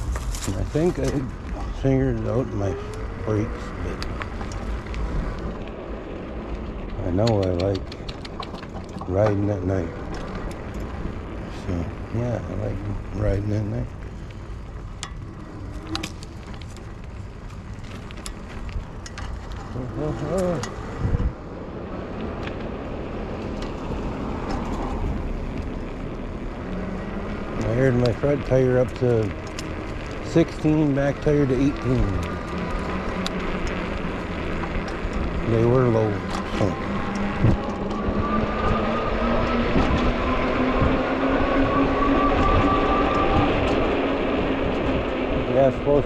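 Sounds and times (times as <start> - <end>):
wind on microphone: 0.0 - 17.2, 18.3 - 30.9, 31.7 - 45.6
bike tires rolling on pavement: 0.0 - 46.0
road noise: 0.0 - 46.0.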